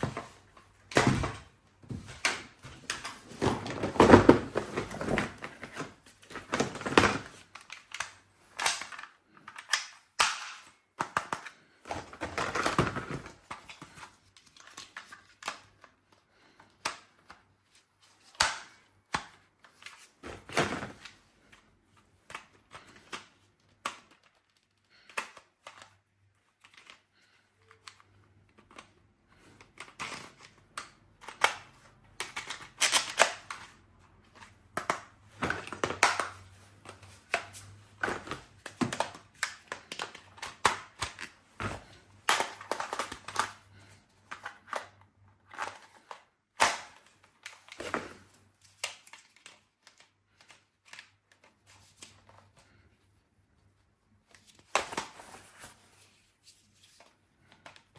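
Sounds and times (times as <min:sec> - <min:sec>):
toys and packaging rustling: 0:00.0 - 0:57.9.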